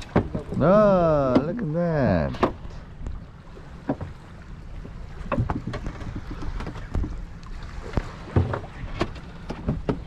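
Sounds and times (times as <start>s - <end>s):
water slapping against boat hull: 0.0s - 10.0s.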